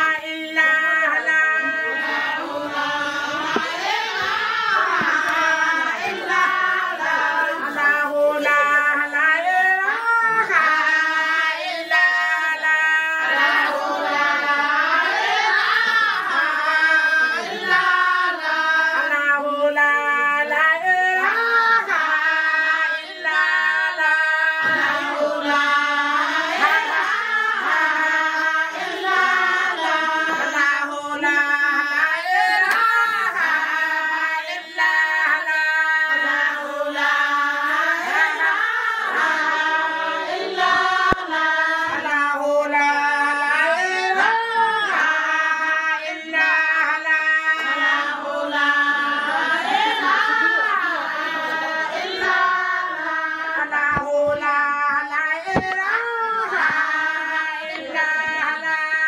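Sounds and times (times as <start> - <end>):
group of women singing: 0.0 - 59.0.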